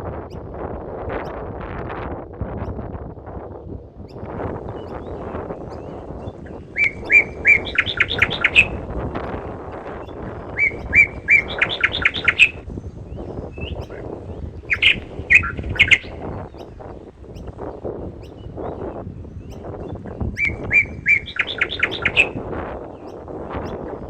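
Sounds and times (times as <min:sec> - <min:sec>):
songbird singing: 0:04.0 - 0:24.0.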